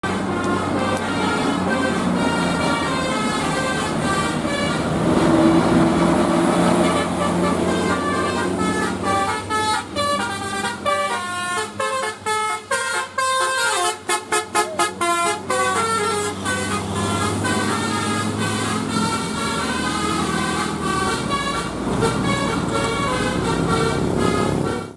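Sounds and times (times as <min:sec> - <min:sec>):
low engine drone: 0:00.0 - 0:11.9, 0:13.7 - 0:24.9
multi-tone musical bus horn: 0:00.0 - 0:24.9.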